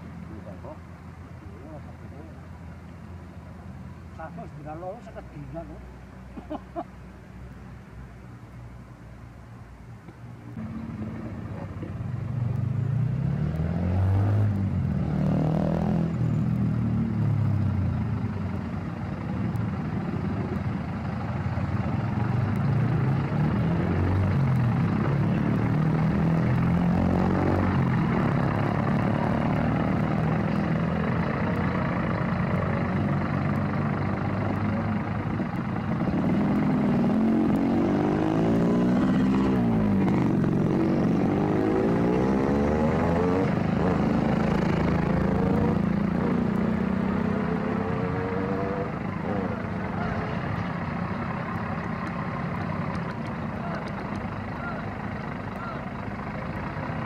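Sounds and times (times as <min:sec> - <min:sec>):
truck diesel engine driving past: 0:10.6 - 0:57.0.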